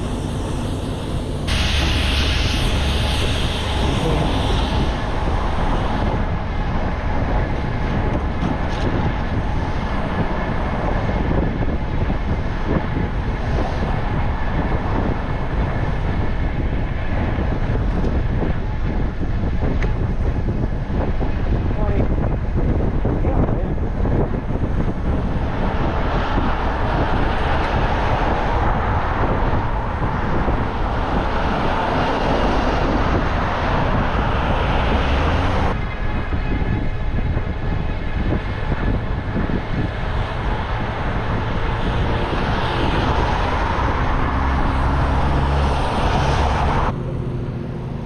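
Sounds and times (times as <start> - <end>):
traffic passing: 0.0 - 48.0
wind rushing over microphone: 0.0 - 48.0.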